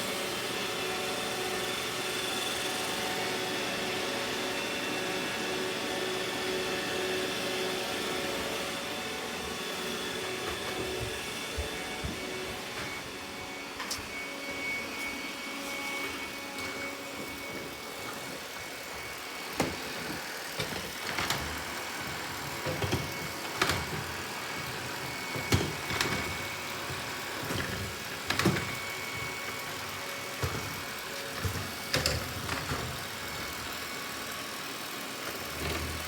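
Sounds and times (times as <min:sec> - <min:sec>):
robot vacuum humming and whining: 0:00.0 - 0:36.0.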